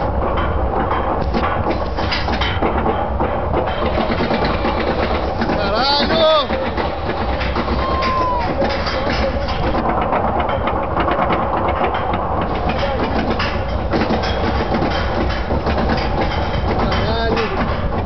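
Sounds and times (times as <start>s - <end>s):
roller coaster lift chain rattling: 0.0s - 18.0s.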